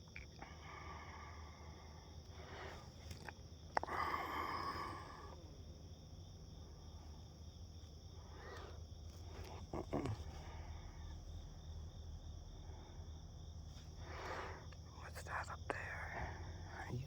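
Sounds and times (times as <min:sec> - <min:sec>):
crickets chirring: 0:00.0 - 0:17.0
low steady hum: 0:00.0 - 0:17.0.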